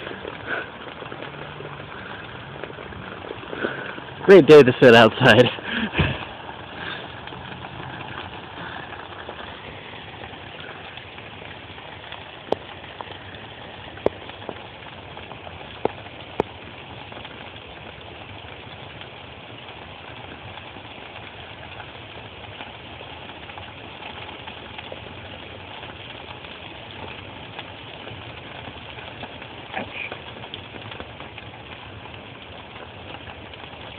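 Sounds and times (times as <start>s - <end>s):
hail pattering: 0.0s - 33.9s
hailstones ticking: 0.0s - 33.9s.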